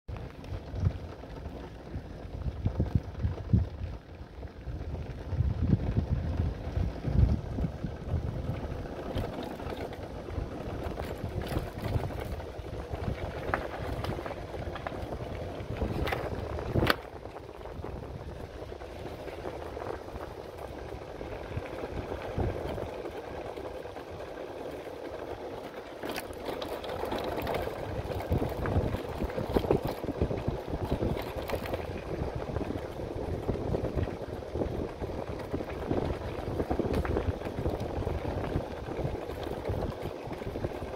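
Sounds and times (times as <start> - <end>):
knocks and rattles on gravel: 0.1 - 40.9
motorcycle engine running: 0.1 - 40.9.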